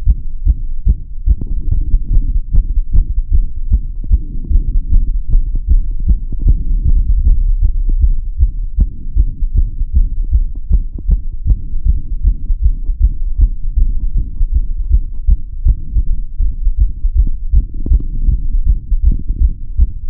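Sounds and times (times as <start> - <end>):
heartbeat thumps: 0.0 - 20.0.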